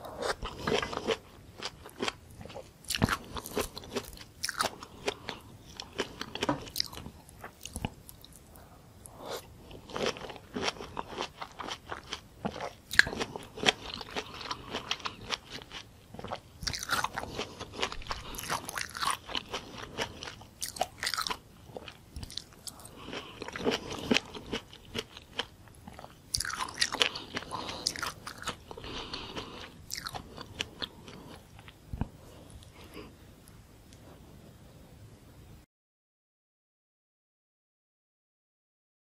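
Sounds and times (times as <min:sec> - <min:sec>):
chewing crunchy fruit: 0:00.0 - 0:33.6.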